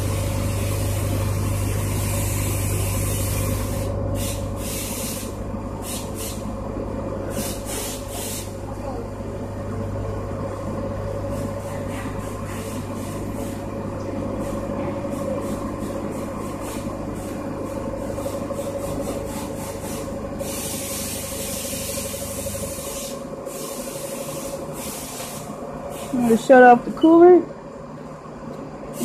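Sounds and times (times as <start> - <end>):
coolant hissing: 0.0 - 27.4, 28.8 - 29.0.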